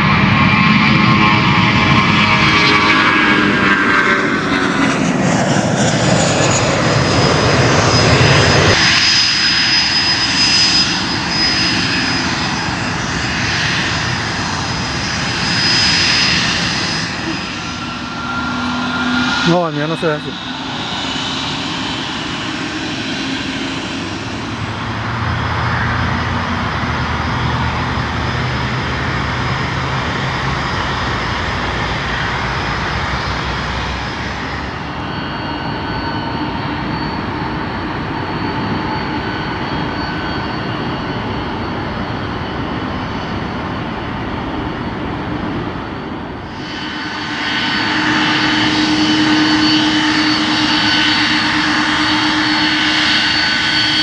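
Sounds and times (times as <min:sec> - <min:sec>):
airliner engines roaring: 0:00.0 - 0:54.0
thin engine whine: 0:00.0 - 0:54.0.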